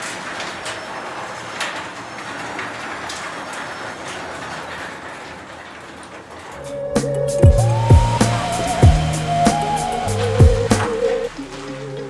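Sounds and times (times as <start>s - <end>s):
door rollers clicking and rattling: 0.0s - 12.0s
garage door opener whirring: 0.0s - 12.0s.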